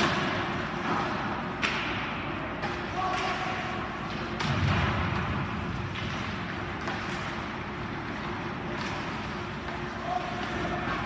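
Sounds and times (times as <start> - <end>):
arena noise: 0.0 - 11.0
hockey sticks and puck clacking: 0.0 - 11.0.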